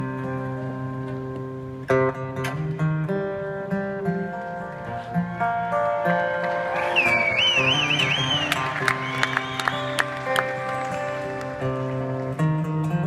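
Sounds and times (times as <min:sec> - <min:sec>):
acoustic guitar picked notes: 0:00.0 - 0:13.0.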